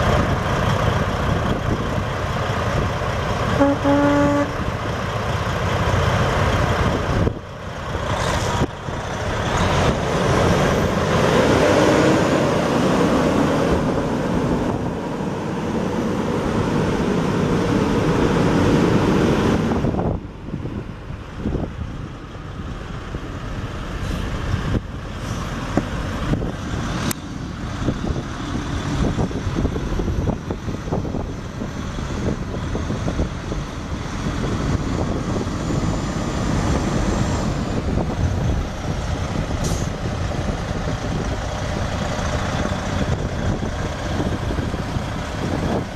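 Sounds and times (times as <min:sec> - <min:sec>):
diesel truck engine running: 0:00.0 - 0:45.9.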